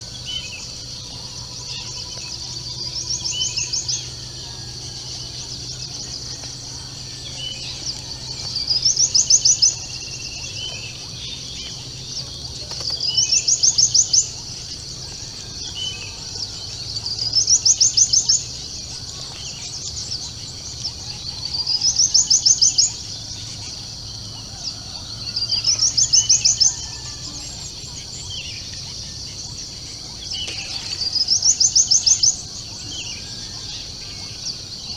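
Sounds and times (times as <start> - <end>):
bird pulsed trill: 0.0 - 34.9.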